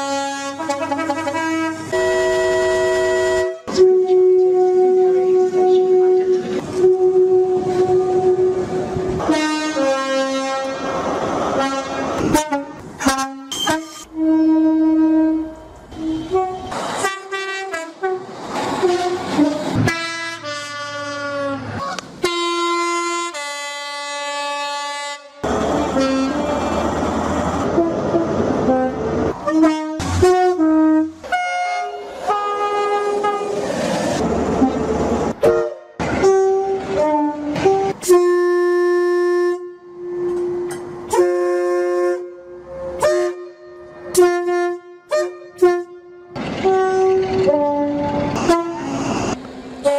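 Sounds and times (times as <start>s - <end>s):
train two-tone horns: 0.0s - 11.0s, 11.6s - 26.9s, 27.6s - 33.6s, 34.6s - 49.9s
train running by: 0.0s - 49.9s.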